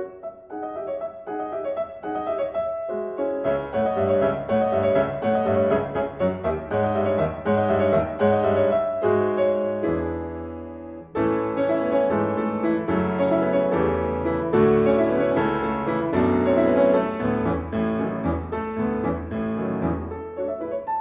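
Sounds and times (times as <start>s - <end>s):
piano music with bass line: 0.0s - 21.0s.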